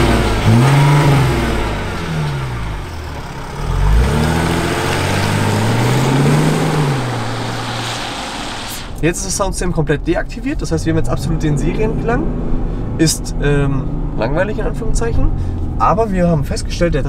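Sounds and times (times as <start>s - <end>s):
car engine accelerating and revving: 0.0s - 9.0s, 10.9s - 16.2s.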